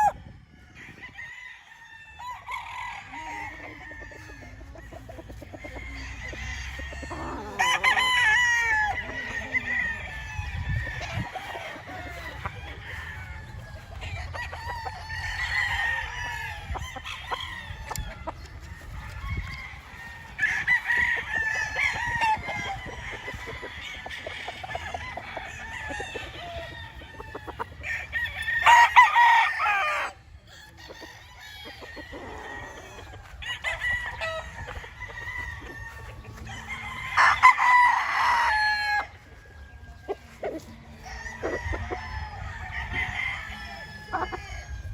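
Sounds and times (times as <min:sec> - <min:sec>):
chickens clucking: 0:00.0 - 0:44.9
roosters crowing: 0:00.0 - 0:44.9.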